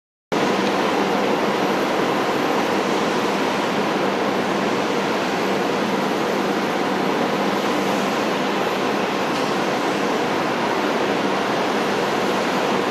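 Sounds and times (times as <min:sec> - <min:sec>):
turboprop engine rushing: 0:00.4 - 0:12.9.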